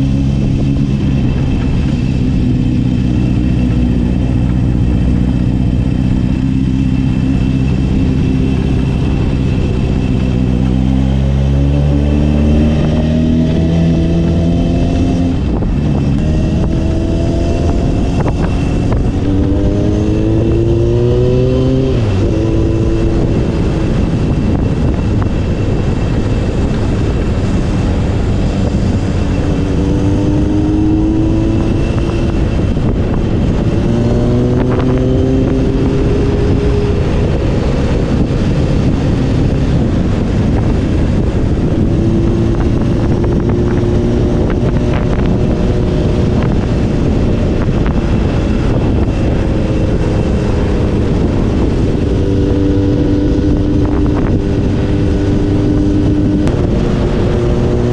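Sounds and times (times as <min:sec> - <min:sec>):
motorcycle engine accelerating: 0:00.0 - 0:57.9
wind and road noise: 0:00.0 - 0:57.9.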